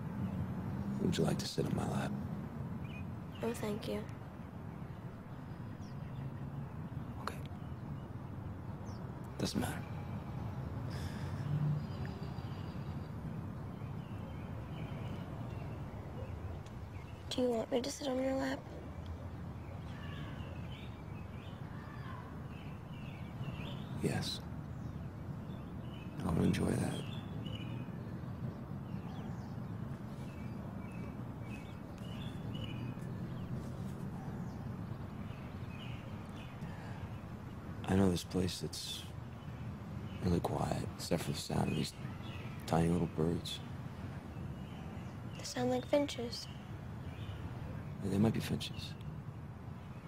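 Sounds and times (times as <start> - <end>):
distant traffic rumble: 0.0 - 50.0
small birds chirping: 0.0 - 50.0.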